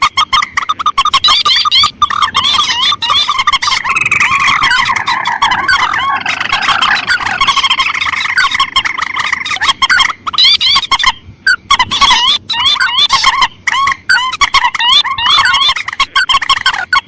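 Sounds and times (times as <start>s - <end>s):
rails chirping calls: 0.0s - 17.0s.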